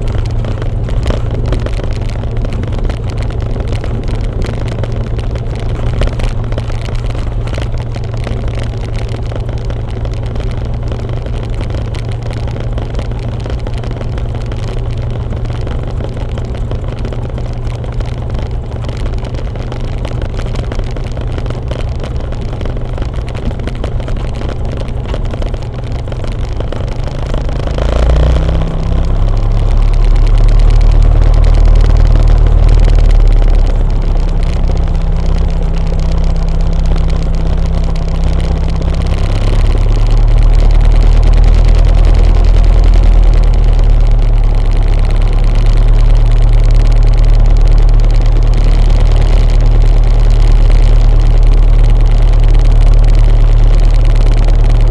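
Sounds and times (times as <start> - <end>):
propeller aircraft engine droning: 0.0 - 54.9.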